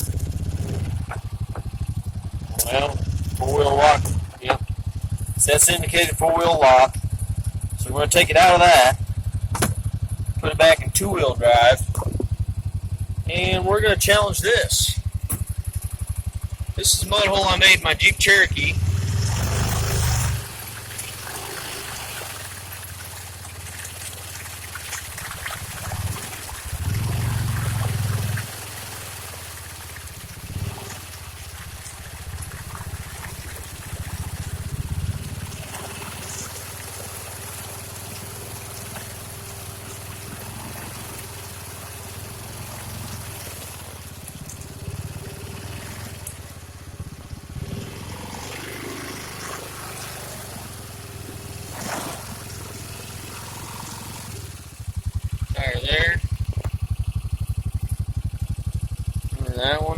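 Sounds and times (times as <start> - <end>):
engine running and surging: 0.0 - 59.9
faint mud and water splashing: 0.0 - 59.9.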